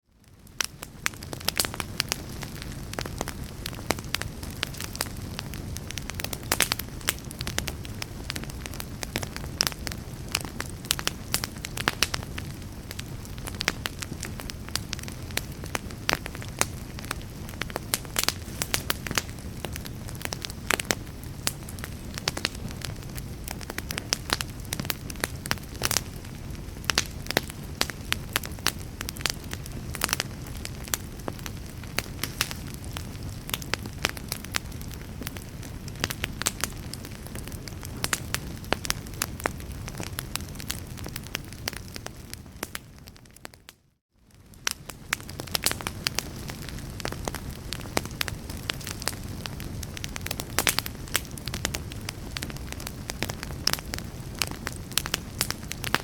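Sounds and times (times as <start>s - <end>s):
fire crackling and popping: 0.0s - 56.0s
low rush of flames: 0.2s - 43.5s, 44.2s - 56.0s.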